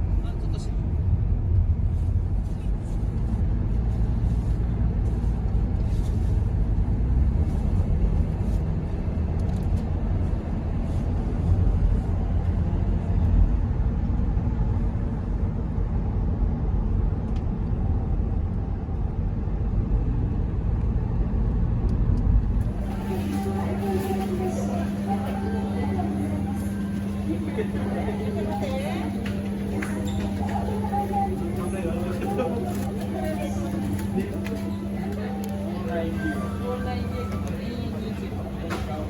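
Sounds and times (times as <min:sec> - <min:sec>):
road vehicle rumbling: 0:00.0 - 0:39.0.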